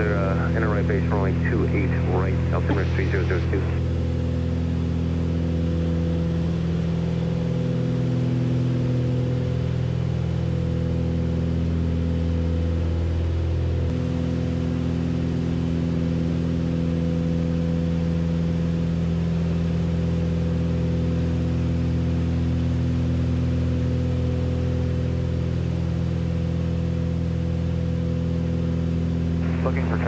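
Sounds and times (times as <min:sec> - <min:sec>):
airplane engines droning in cabin: 0:00.0 - 0:30.0.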